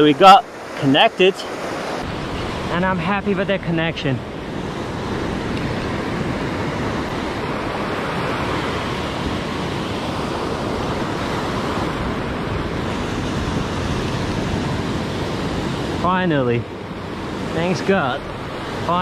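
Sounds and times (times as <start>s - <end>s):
ocean surf breaking on beach: 0.0s - 19.0s
wind rumbling on microphone: 0.0s - 19.0s.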